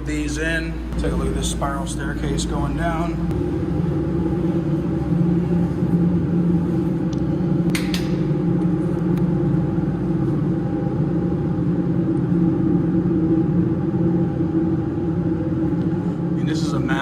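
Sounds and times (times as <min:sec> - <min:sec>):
machinery hum with held tones: 0:00.0 - 0:17.0.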